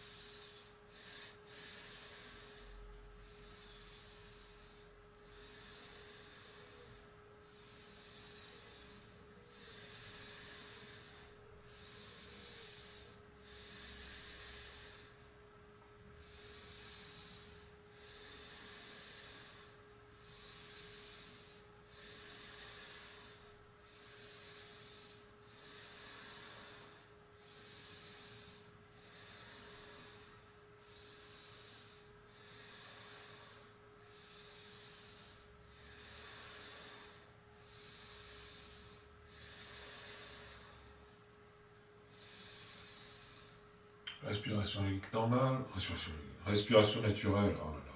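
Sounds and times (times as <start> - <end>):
slow controlled breathing: 0.0 - 47.9.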